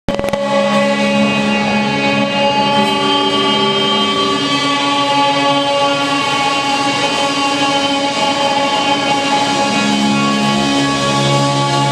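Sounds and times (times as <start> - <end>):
rock band playing live: 0.1 - 11.9.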